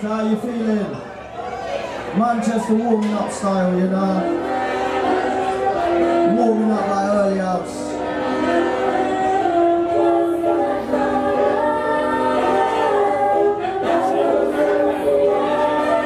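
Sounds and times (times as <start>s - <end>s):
reggae song over sound system: 2.2s - 16.0s.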